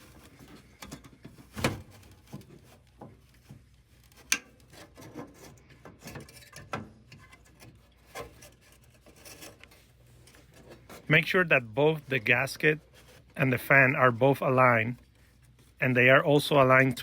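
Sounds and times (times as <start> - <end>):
rubbing and scraping: 0.0 - 17.0.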